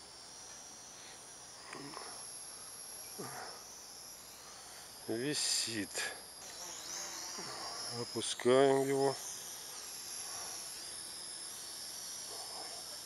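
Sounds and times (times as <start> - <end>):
drone motors whining: 0.0 - 5.6, 6.3 - 13.0.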